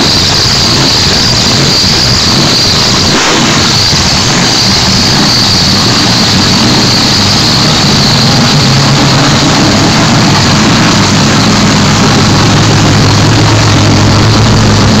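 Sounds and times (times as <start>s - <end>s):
supercharged engine idling: 0.0s - 15.0s.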